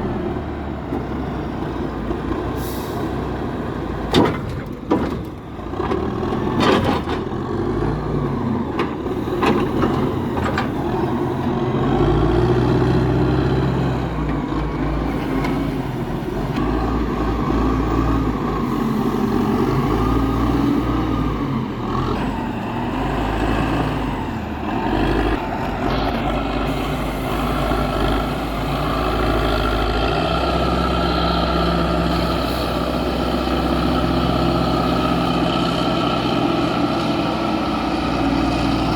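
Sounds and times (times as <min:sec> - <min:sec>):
heavy diesel truck engine: 0:00.0 - 0:38.9.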